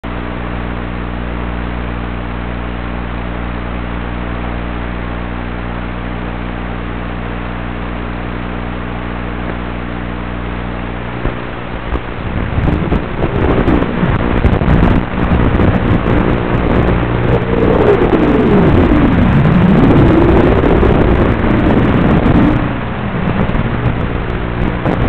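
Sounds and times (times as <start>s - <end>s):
steady electrical hum with hiss: 0.1s - 25.0s.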